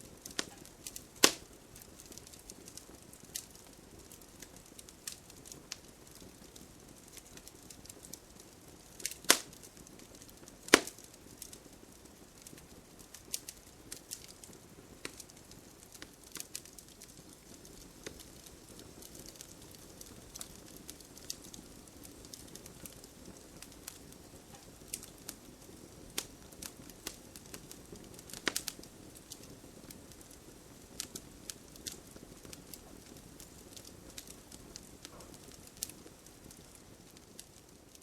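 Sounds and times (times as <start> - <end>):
crackles and pops of wood: 0.0 - 38.0
soft rush of flame: 0.0 - 38.0.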